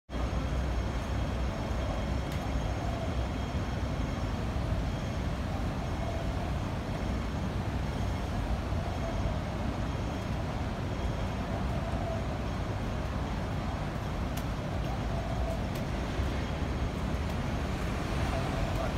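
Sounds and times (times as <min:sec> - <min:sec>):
city street traffic rumble: 0:00.1 - 0:18.9.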